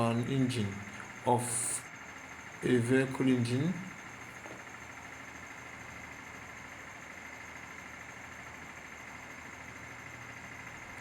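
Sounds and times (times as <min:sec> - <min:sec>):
faint high whine: 0:00.0 - 0:11.0
mechanical hum with hiss: 0:00.0 - 0:11.0.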